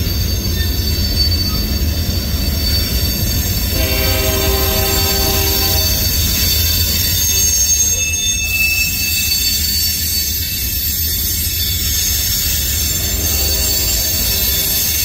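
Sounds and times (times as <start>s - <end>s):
freight train rumbling past: 0.0s - 15.0s
wheel and brake squeal: 0.0s - 15.0s.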